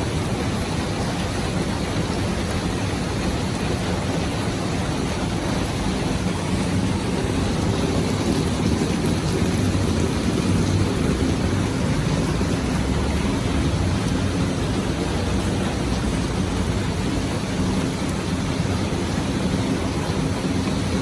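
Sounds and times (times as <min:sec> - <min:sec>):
heavy rain rushing: 0:00.0 - 0:21.0.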